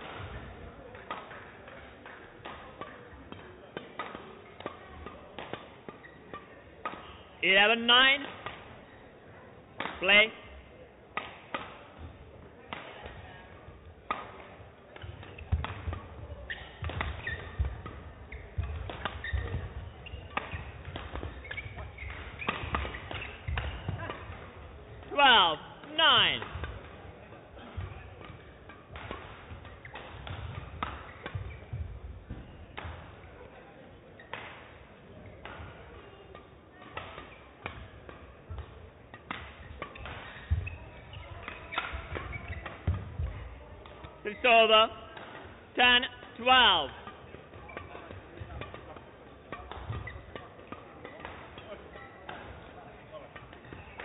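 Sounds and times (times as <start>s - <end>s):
rackets striking shuttlecock: 0.0s - 8.8s, 9.8s - 10.1s, 11.1s - 33.5s, 34.2s - 54.0s
shoes squeaking on court: 2.0s - 8.2s, 12.8s - 54.0s.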